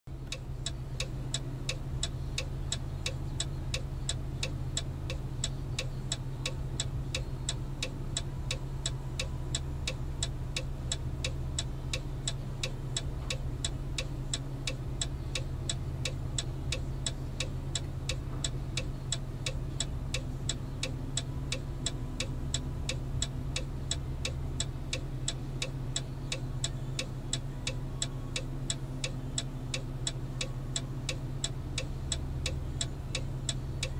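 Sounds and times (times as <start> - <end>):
constant low hum: 0.1 - 33.9
regular ticking: 0.1 - 33.9.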